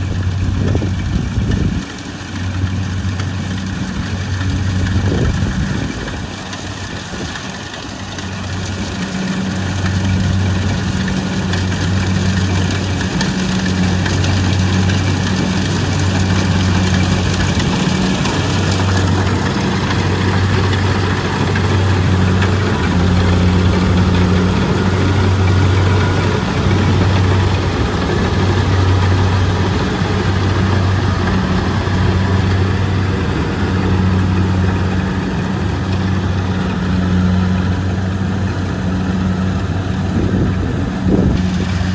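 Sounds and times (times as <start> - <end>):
diesel engine droning: 0.0 - 41.9.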